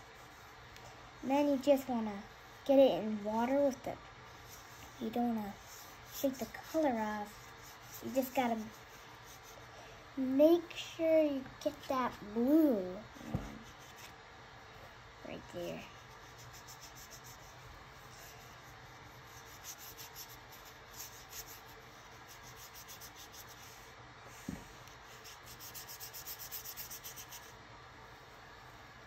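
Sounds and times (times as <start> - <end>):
paintbrush strokes on paper: 0.0 - 14.2, 15.3 - 28.9.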